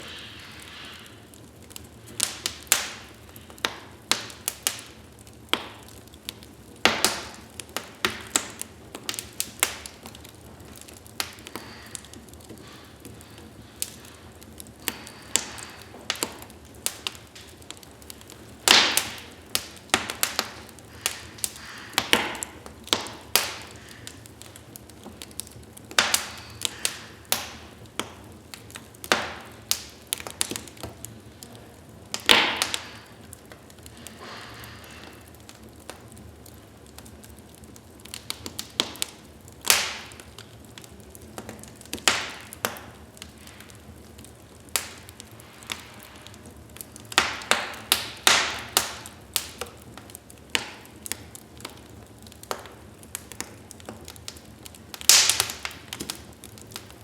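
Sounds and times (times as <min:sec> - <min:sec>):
soft steady fire hiss: 0:00.0 - 0:57.0
wood fire crackling and popping: 0:00.0 - 0:57.0.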